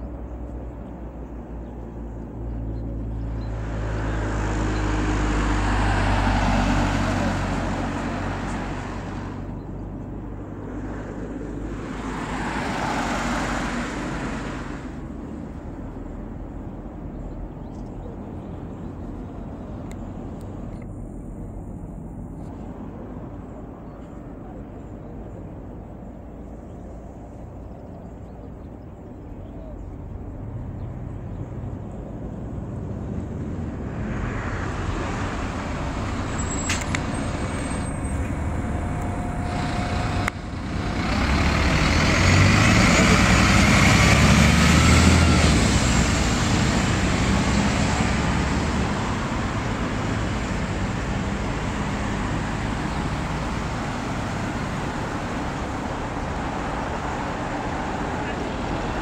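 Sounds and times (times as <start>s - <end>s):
bus driving by: 0.0s - 59.0s
cars passing: 0.0s - 59.0s.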